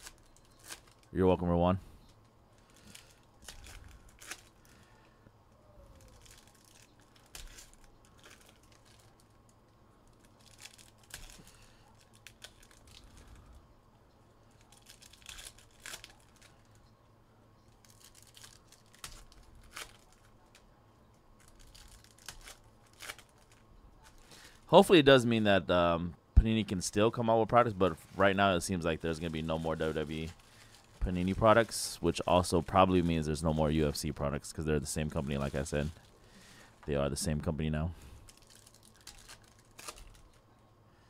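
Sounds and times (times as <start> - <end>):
wrappers tearing and crinkling: 0.0 - 1.2, 2.2 - 5.1, 5.7 - 13.6, 14.4 - 16.8, 17.7 - 20.7, 21.4 - 24.8, 26.8 - 36.6, 38.1 - 40.5.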